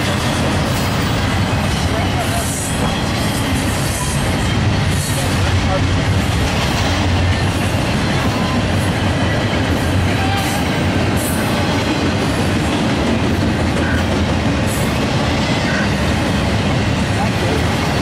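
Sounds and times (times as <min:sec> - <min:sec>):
steel train wheels on rails: 0:00.0 - 0:18.0.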